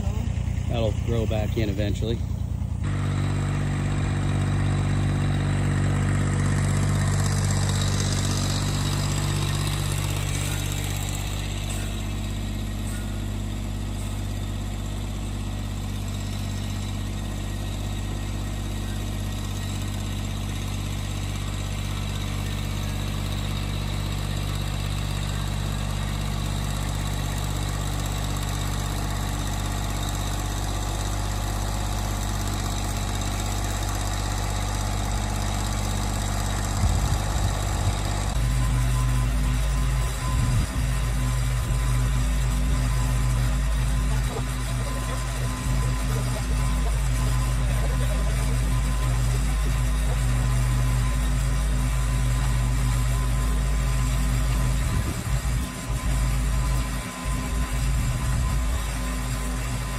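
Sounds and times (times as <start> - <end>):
diesel tractor engine idling: 0.0 - 59.9.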